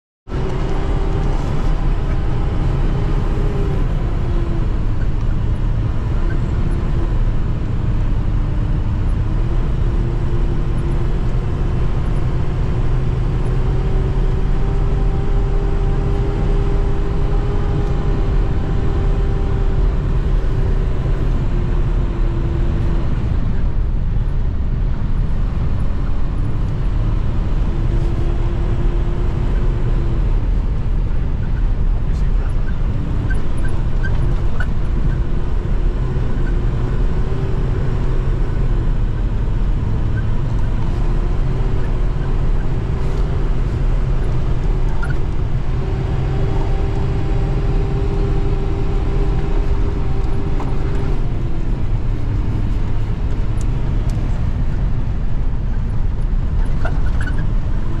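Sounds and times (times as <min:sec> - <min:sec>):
road and tyre rumble: 0:00.2 - 0:58.0
van engine hum: 0:00.3 - 0:58.0.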